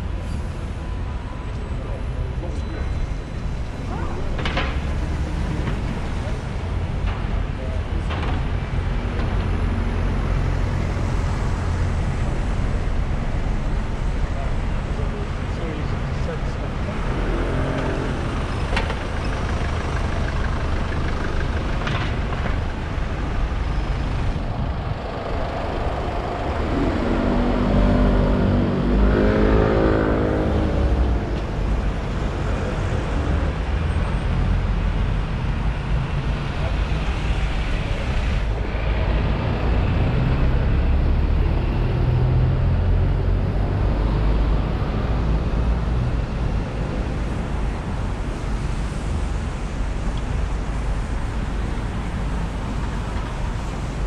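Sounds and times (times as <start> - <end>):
buses and cars passing: 0.0 - 54.0
vehicle engine hum: 0.0 - 54.0.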